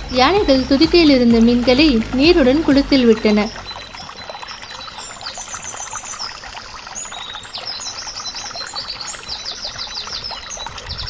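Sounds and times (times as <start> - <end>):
birds chirping trills: 0.0 - 11.0
trickling water: 0.0 - 11.0.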